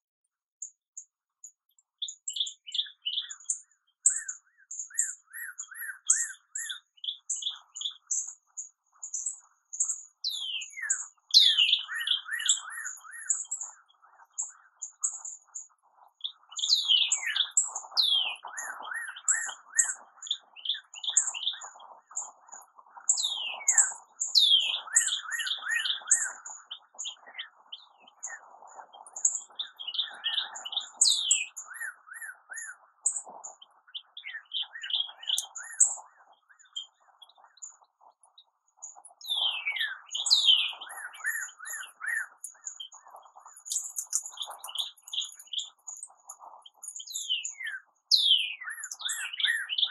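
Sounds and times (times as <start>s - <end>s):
low bird chatter: 0.4s - 49.9s
high bird chirps: 1.9s - 49.9s.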